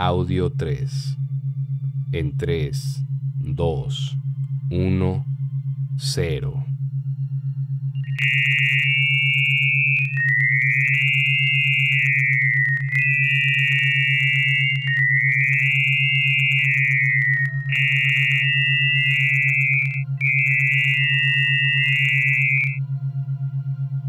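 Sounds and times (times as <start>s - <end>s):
high whistling electronic tone: 0.0s - 1.2s, 2.2s - 5.3s, 7.7s - 23.0s
low pulsing electronic hum: 0.0s - 24.0s.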